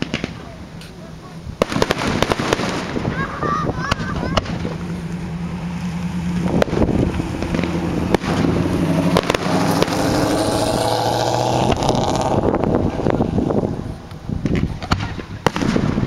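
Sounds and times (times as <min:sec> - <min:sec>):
fireworks bangs: 0:00.0 - 0:16.0
fireworks crackling: 0:00.0 - 0:16.0
steady engine hum: 0:00.0 - 0:16.0.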